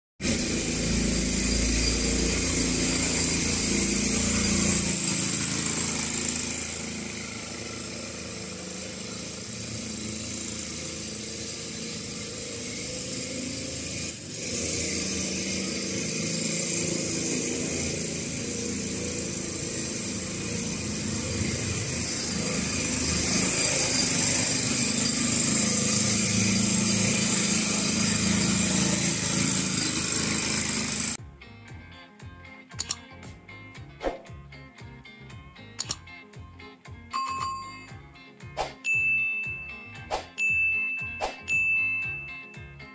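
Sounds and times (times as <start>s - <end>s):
scooter engine running: 0.2s - 31.3s, 38.9s - 42.9s.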